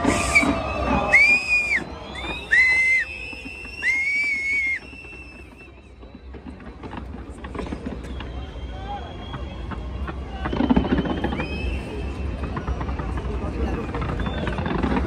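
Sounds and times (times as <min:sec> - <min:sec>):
loud high whistles: 0:00.0 - 0:12.8, 0:13.8 - 0:15.0
faint fireworks pops and crackles: 0:00.0 - 0:15.0.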